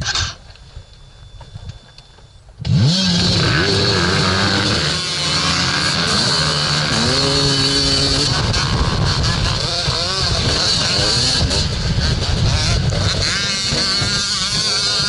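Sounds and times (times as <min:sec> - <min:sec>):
other dirt bikes running: 0:00.0 - 0:15.0
dirt bike engine revving: 0:02.6 - 0:15.0.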